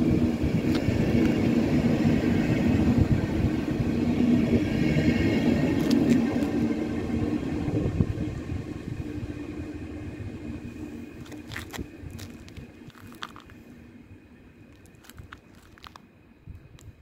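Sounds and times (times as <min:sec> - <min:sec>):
train rolling away: 0:00.0 - 0:17.0.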